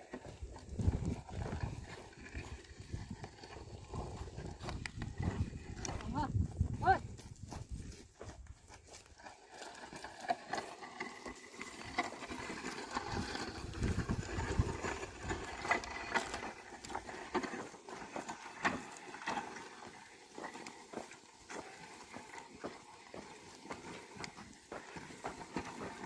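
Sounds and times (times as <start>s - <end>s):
hoof steps: 0.0s - 26.0s.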